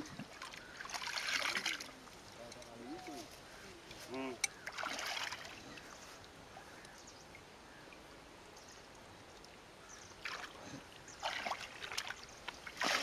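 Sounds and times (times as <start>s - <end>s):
water splashing and sloshing: 0.0s - 8.2s, 8.9s - 13.0s.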